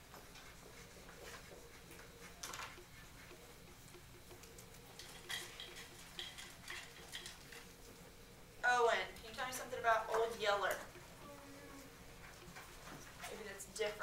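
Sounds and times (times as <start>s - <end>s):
faint even ticking: 1.6s - 14.0s.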